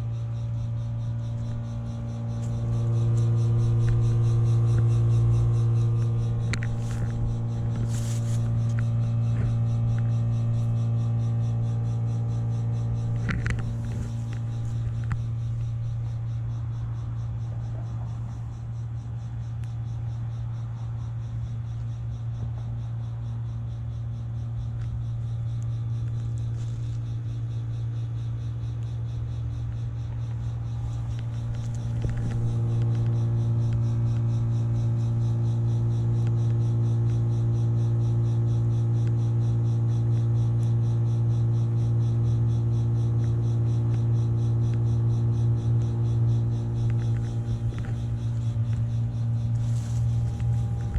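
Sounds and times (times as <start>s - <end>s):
heat pump humming: 0.0s - 20.5s, 24.3s - 50.9s.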